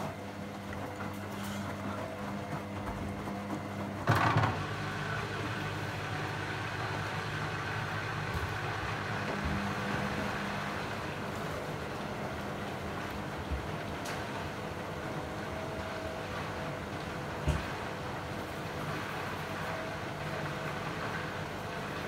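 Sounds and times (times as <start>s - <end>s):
washing machine drain pump humming: 0.0s - 22.0s.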